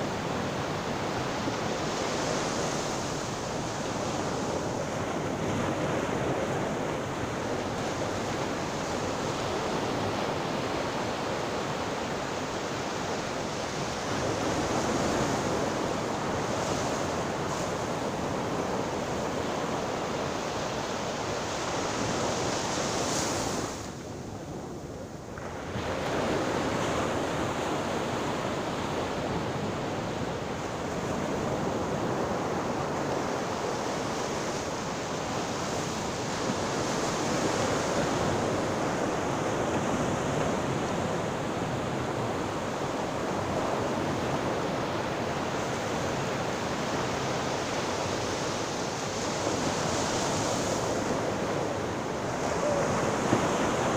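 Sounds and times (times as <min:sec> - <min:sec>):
waves breaking: 0:00.0 - 0:53.9.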